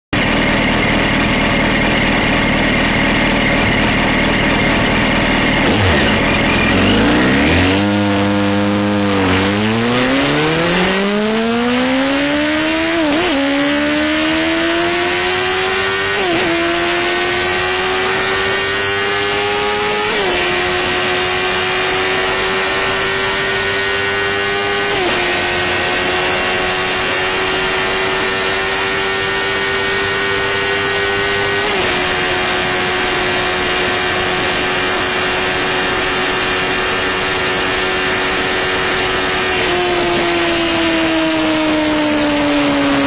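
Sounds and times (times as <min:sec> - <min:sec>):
motorcycle engine accelerating: 0:00.1 - 0:43.0.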